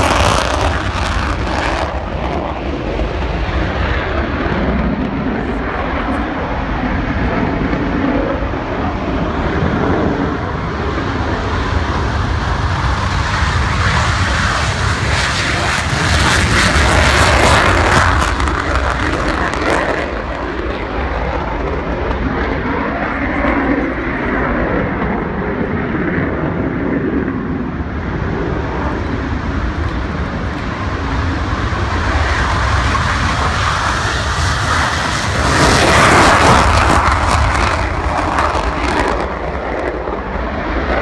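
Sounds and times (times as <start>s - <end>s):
jet engines taking off: 0.0s - 41.0s.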